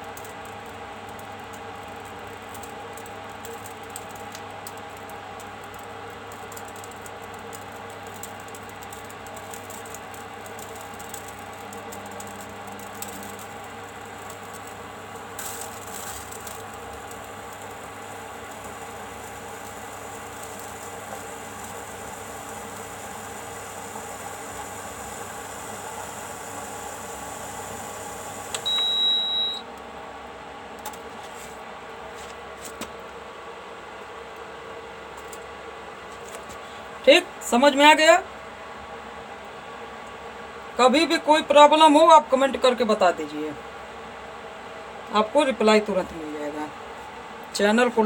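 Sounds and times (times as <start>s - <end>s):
cooktop fan humming: 0.0s - 48.0s.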